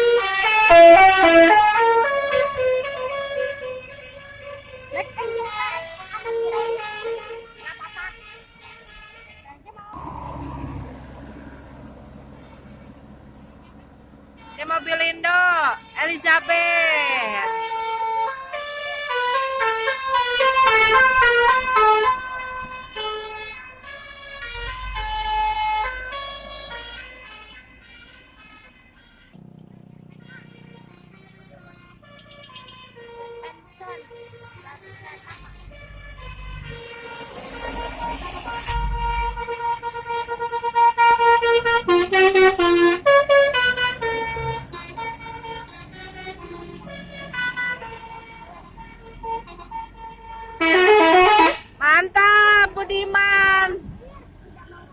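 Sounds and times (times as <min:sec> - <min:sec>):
low engine rumble: 0:00.0 - 0:07.6, 0:08.8 - 0:54.9
bus horn playing a melody: 0:00.0 - 0:53.9.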